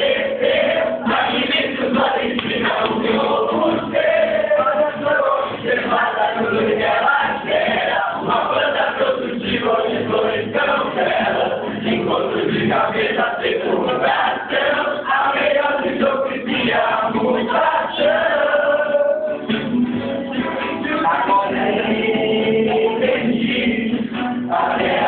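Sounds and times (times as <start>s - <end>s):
group singing in chorus: 0.0s - 25.0s.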